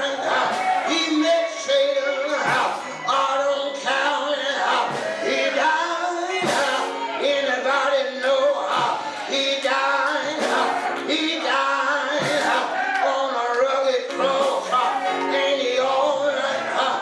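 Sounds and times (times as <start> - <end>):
worship singing: 0.0 - 17.0.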